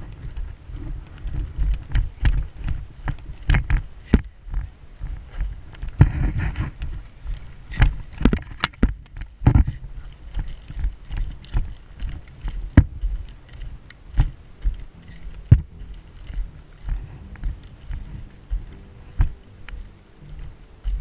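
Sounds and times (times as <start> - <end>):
gear knocking and rattling: 0.0 - 21.0
running footsteps on gravel: 0.0 - 21.0.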